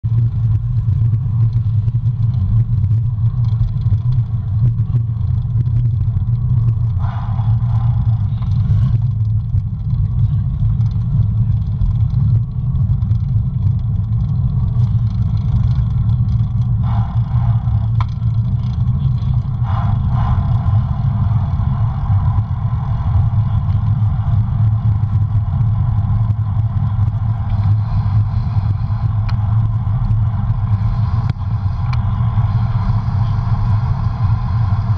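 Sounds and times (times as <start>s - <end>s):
bicycle tyre noise on road: 0.0s - 34.9s
wind buffeting microphone: 0.0s - 34.9s.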